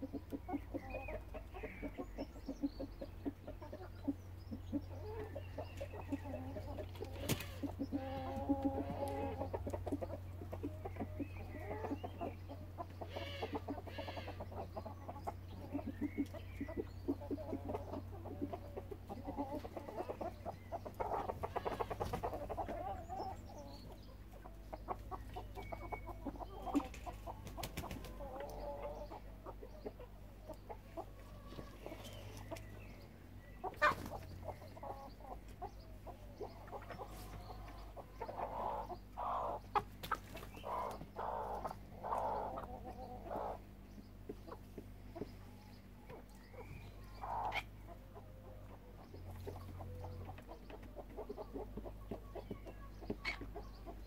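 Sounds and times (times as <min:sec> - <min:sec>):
chickens clucking: 0:00.0 - 0:54.0
low steady hum: 0:00.0 - 0:54.0.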